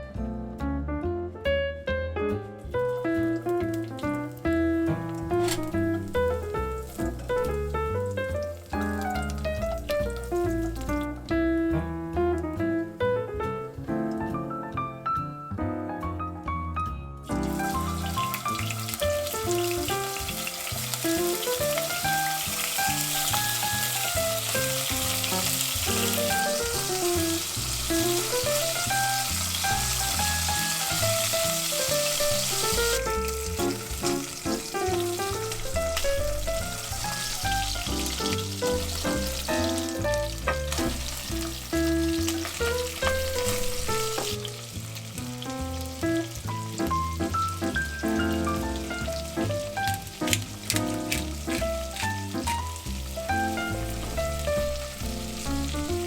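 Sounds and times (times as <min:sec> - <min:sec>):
background music melody: 0:00.0 - 0:56.0
food sizzling in hot fat: 0:02.6 - 0:13.0, 0:17.3 - 0:56.0.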